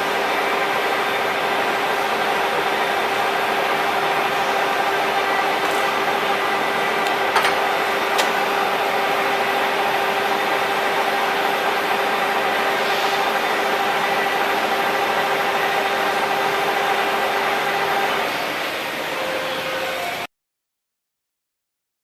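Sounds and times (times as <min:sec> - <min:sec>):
lathe humming and whining: 0:00.0 - 0:20.3.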